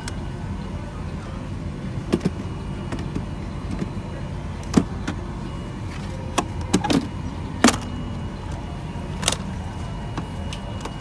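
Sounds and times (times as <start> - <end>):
aircraft cabin hum: 0.0 - 11.0.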